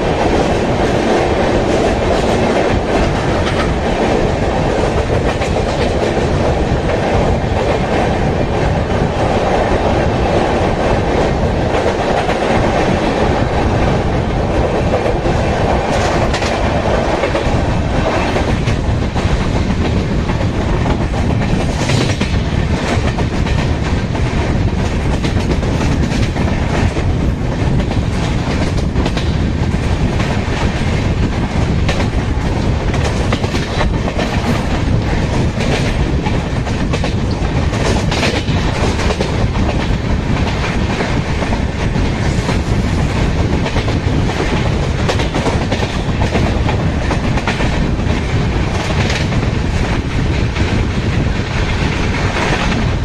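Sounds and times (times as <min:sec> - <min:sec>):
clickety-clack over rail joints: 0:00.0 - 0:53.0
train wheels rumbling on rails: 0:00.0 - 0:53.0.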